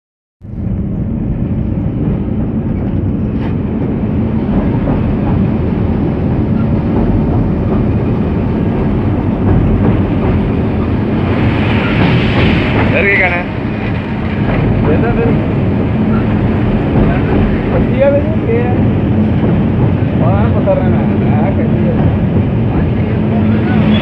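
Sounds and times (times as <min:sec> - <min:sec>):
train wheels rumbling on rails: 0:00.4 - 0:24.0.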